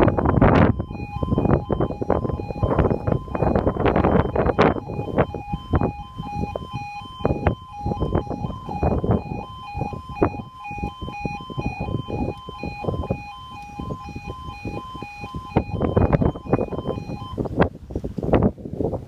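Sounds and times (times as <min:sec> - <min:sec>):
two-tone crossing alarm: 0:00.0 - 0:17.4
low buffeting noise: 0:00.0 - 0:19.0.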